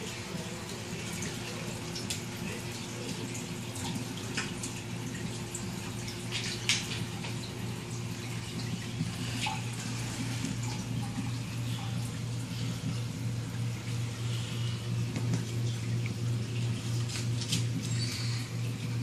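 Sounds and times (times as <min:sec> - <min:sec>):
low pump hum: 0:00.0 - 0:19.0
water trickling and splashing: 0:00.0 - 0:19.0.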